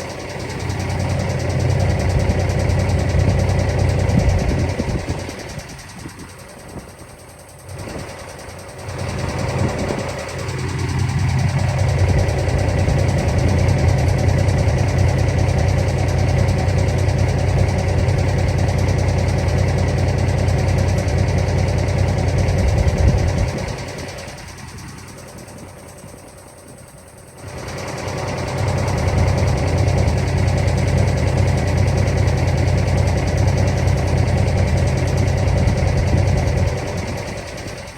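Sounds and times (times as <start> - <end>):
diesel truck engine rumbling: 0.0 - 37.9.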